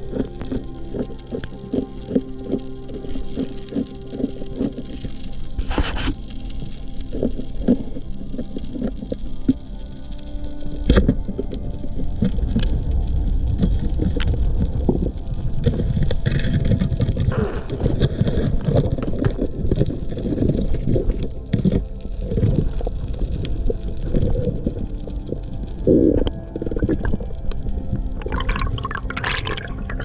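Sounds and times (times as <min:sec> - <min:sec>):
muffled underwater rumble: 0:00.0 - 0:30.0
water gurgling: 0:00.0 - 0:30.0.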